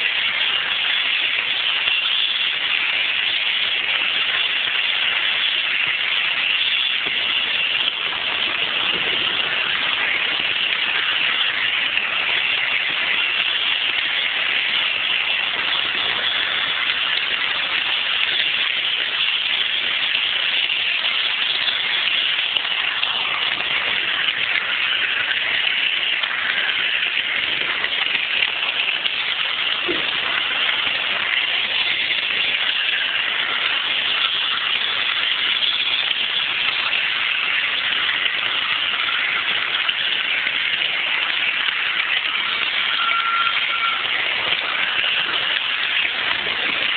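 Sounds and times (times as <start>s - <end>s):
model train wheels and motor: 0.0s - 46.9s.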